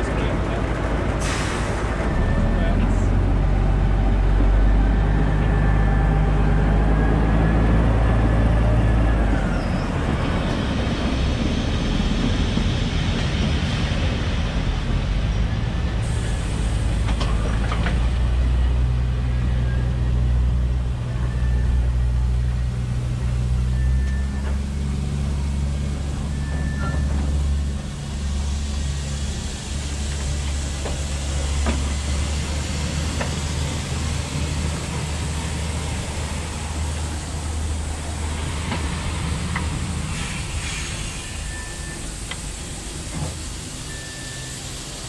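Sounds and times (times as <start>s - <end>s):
rail vehicle engine idling: 0.0s - 45.0s.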